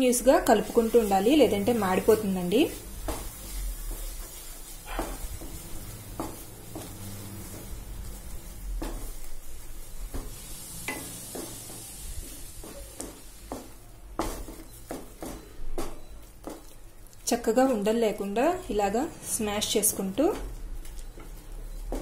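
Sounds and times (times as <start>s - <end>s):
spatula stirring thick mixture: 0.0s - 22.0s.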